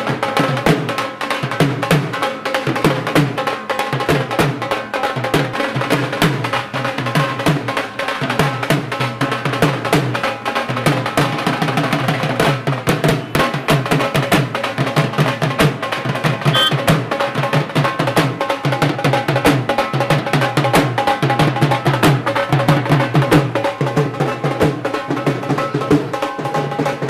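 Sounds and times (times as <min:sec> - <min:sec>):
drums beaten with sticks: 0:00.0 - 0:27.0.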